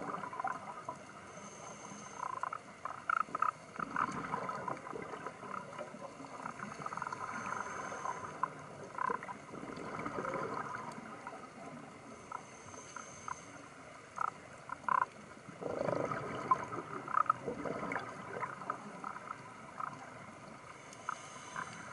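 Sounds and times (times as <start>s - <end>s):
small underwater clicks: 0.0s - 21.9s
underwater bubbling: 0.0s - 21.9s.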